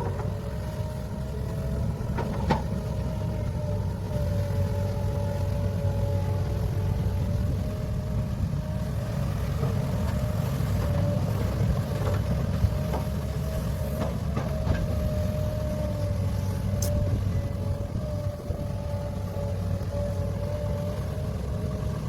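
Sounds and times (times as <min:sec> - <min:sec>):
diesel engine rumble: 0:00.0 - 0:22.0.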